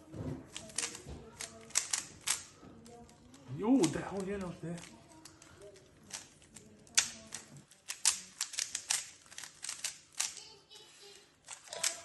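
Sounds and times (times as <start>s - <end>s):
puzzle cube clicking: 0.5s - 10.4s, 11.4s - 12.0s.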